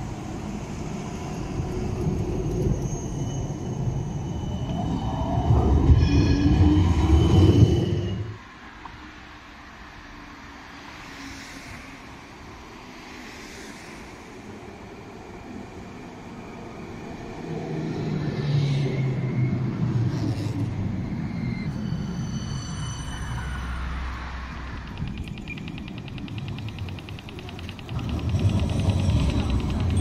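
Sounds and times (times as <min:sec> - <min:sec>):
city street background: 0:00.0 - 0:30.0
tram approaching: 0:00.0 - 0:30.0.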